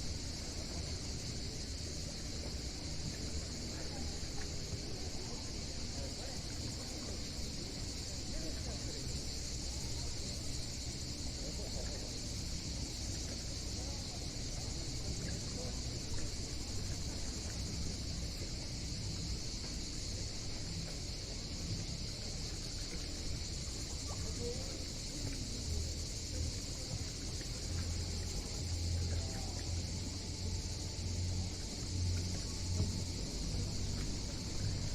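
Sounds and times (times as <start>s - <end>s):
insects chorus: 0.0s - 34.9s
faint voices: 0.2s - 34.9s.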